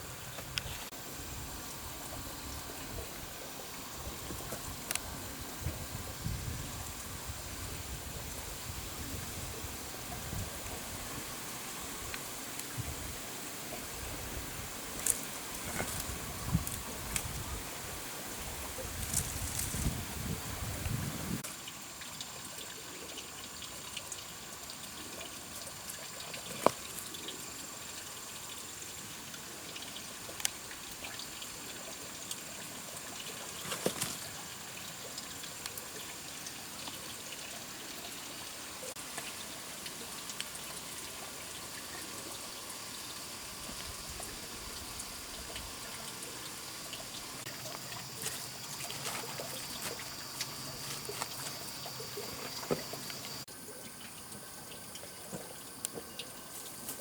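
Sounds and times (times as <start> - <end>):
water trickling: 0.1 - 57.0.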